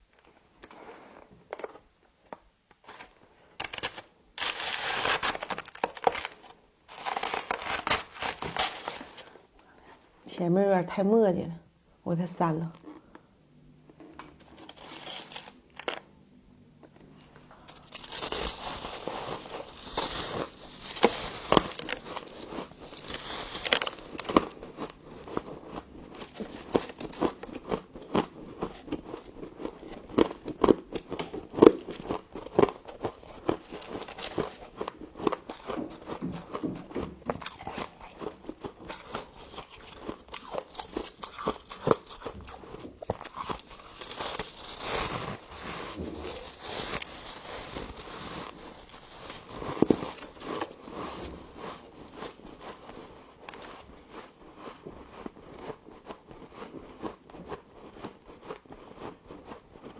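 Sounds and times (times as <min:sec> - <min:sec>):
frost crunching being chewed: 0:00.6 - 0:09.5, 0:13.8 - 0:16.1, 0:16.8 - 0:59.9.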